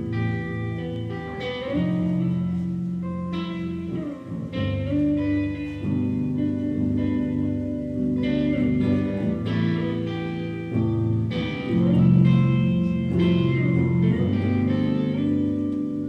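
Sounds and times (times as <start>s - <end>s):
amplified guitars playing chords: 0.0s - 16.0s.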